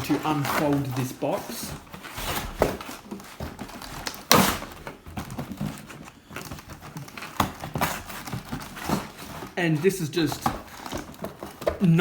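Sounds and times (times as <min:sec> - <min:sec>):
cardboard rustling and scraping: 0:00.0 - 0:12.0.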